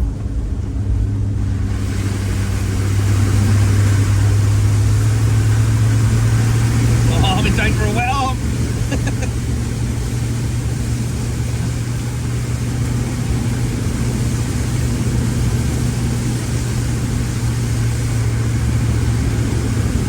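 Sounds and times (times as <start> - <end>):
car engine hum: 0.0 - 20.0
road noise rushing: 0.0 - 20.0.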